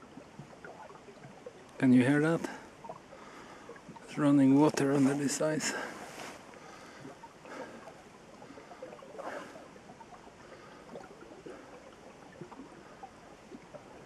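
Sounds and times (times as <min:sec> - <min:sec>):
small water plinks: 0:00.0 - 0:14.0
water trickling under ice: 0:00.0 - 0:14.0.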